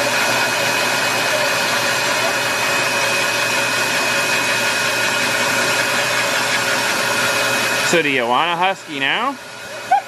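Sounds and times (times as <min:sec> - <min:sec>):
pet dryer blowing air: 0:00.0 - 0:10.0.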